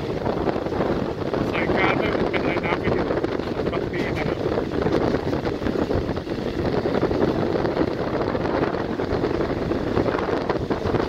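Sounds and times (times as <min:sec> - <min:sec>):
train carriage rumbling on rails: 0:00.0 - 0:11.0
wind on microphone: 0:00.0 - 0:11.0.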